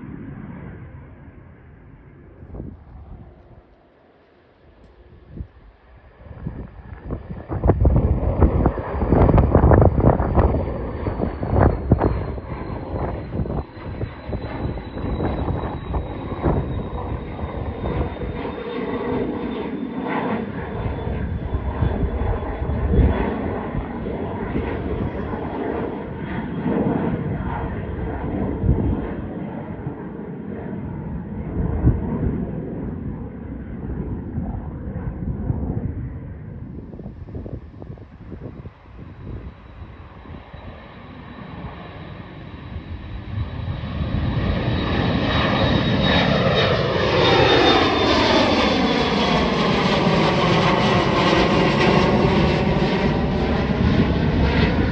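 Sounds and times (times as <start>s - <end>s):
airliner engines taking off: 0.0s - 54.9s.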